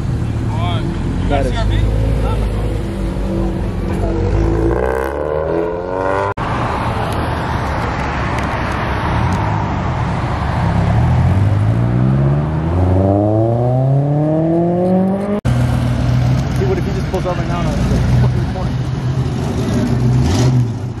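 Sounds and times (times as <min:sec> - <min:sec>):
car engines accelerating: 0:00.0 - 0:21.0
exhaust and road noise rushing: 0:00.0 - 0:21.0.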